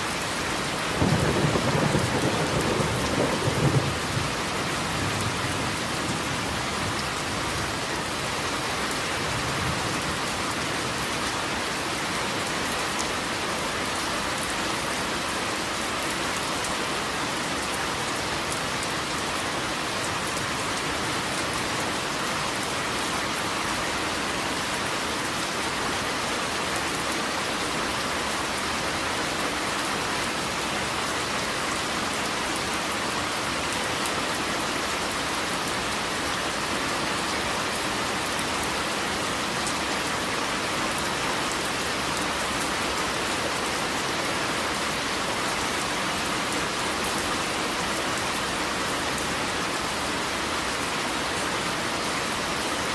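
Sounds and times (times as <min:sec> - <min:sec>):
rain falling on a surface: 0:00.0 - 0:52.9.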